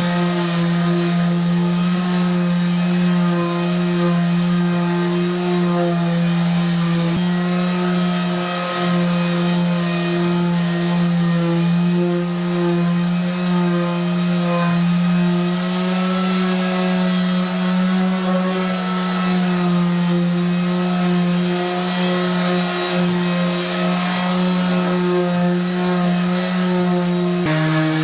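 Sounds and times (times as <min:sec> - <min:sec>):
electric power tool motor humming: 0:00.0 - 0:28.0.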